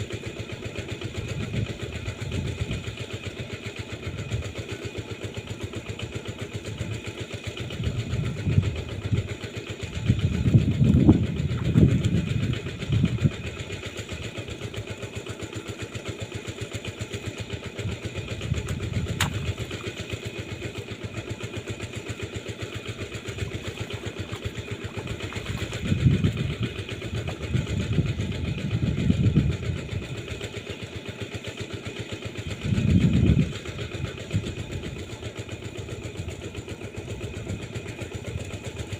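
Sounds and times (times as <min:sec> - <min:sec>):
low engine rumbles: 0:00.0 - 0:38.9
small engine running: 0:00.0 - 0:38.9.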